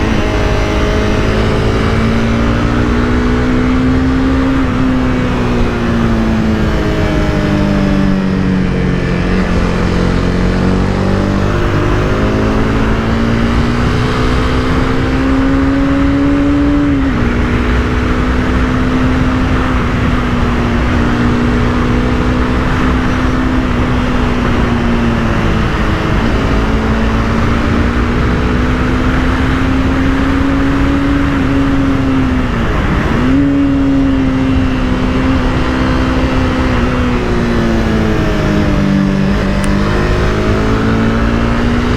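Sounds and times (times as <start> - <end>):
motorcycle engine accelerating: 0.0 - 41.9
wind rush: 0.0 - 41.9.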